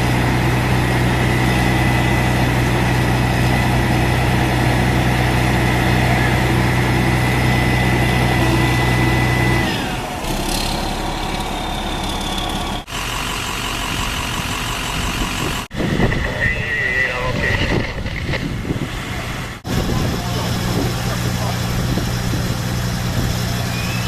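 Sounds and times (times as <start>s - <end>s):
diesel engine idling: 0.0s - 17.5s, 18.6s - 24.0s.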